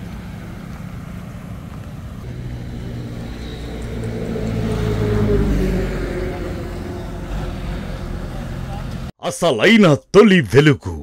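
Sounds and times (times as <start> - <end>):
engine humming: 0.0 - 9.1.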